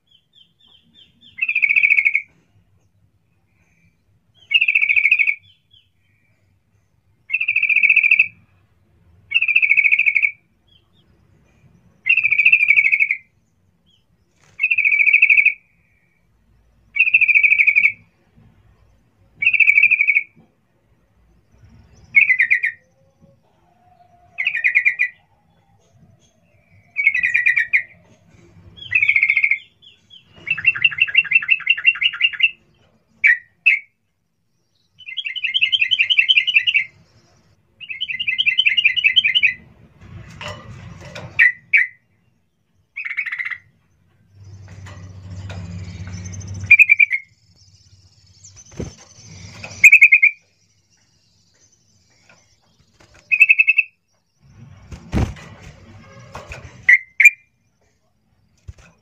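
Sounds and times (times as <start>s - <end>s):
bird singing: 0.0s - 8.6s, 9.2s - 20.5s, 21.1s - 39.7s, 41.3s - 59.0s.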